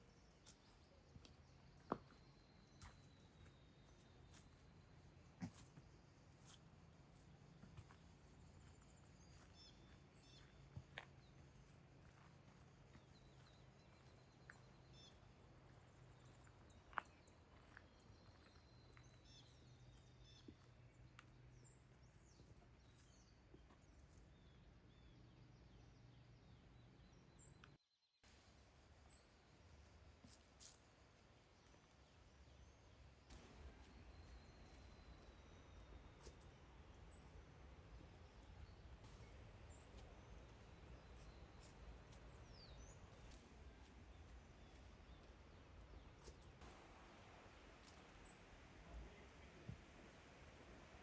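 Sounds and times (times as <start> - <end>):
faint bird chirps: 0.0 - 28.0, 30.2 - 49.8.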